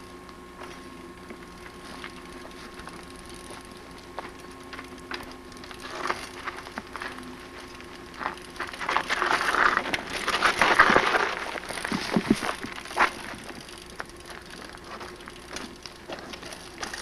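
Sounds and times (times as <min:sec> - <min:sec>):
steady hum: 0:00.0 - 0:17.0
bike tyres crunching over rock: 0:00.6 - 0:17.0.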